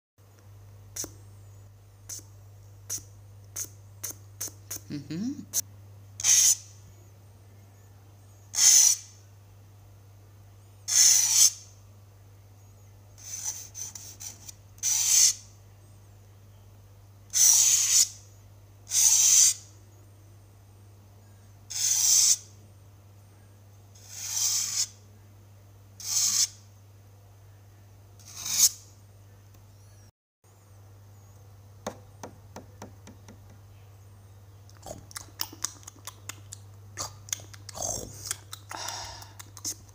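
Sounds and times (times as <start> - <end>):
steady low hum: 0.2 - 39.9.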